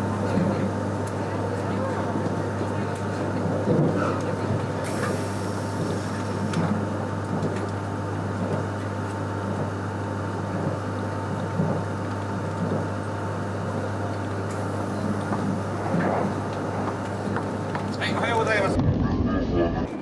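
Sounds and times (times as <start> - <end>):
train running noise rumble: 0.0 - 20.0.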